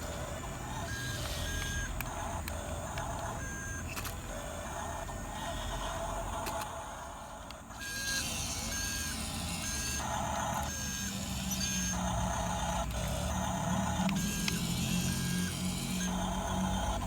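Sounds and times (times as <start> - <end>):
model motors running: 0.0 - 17.0.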